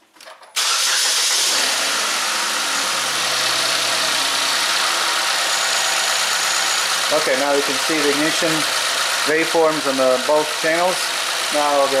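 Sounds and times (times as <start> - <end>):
car engine idling: 0.6 - 11.7.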